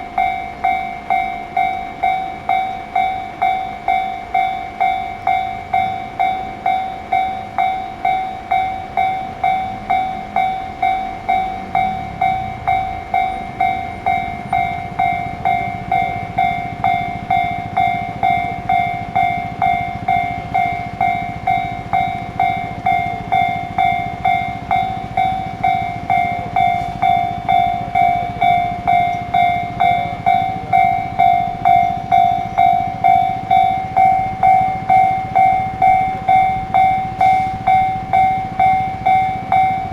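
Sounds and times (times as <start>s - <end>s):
level crossing bell ringing: 0.0s - 39.9s
train rumble: 0.0s - 39.9s.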